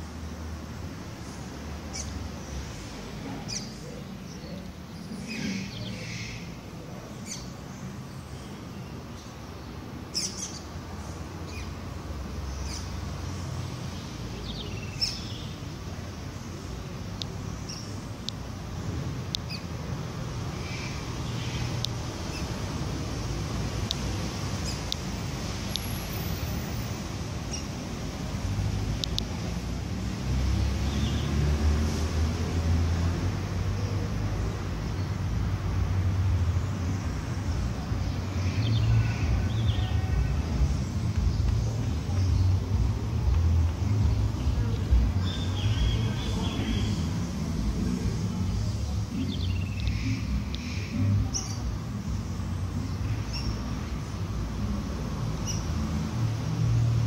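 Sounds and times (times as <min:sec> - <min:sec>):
birds chirping: 0:01.2 - 0:31.6, 0:32.3 - 0:57.0.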